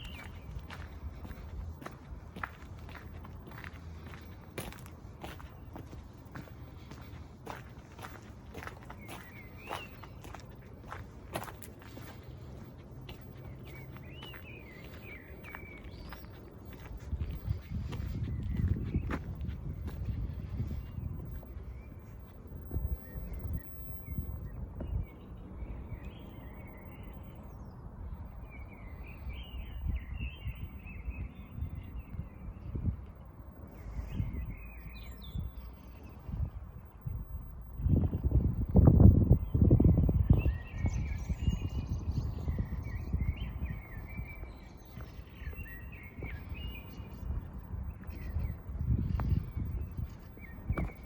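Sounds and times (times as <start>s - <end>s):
low city rumble: 0.0s - 51.0s
songbirds chirping: 0.0s - 51.0s.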